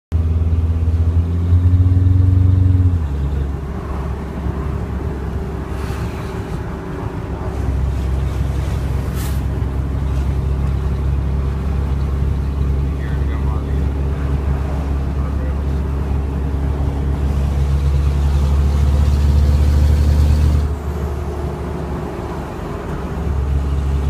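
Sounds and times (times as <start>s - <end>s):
diesel engine with exhaust leak: 0.1s - 24.0s.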